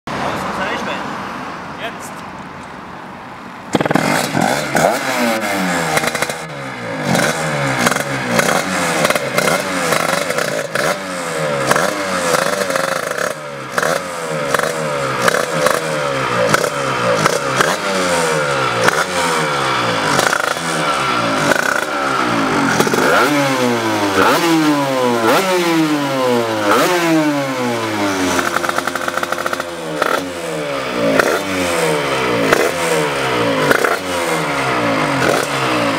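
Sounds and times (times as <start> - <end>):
two-stroke engine revving: 3.7 - 35.9.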